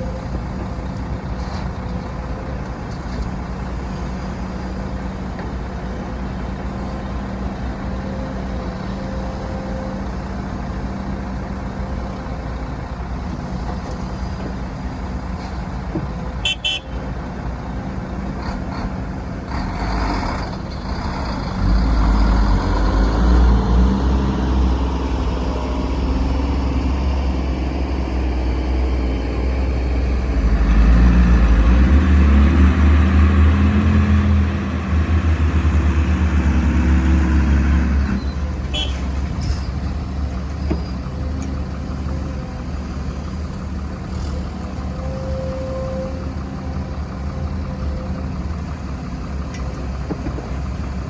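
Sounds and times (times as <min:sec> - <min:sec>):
heavy diesel machinery engine: 0:00.0 - 0:51.0.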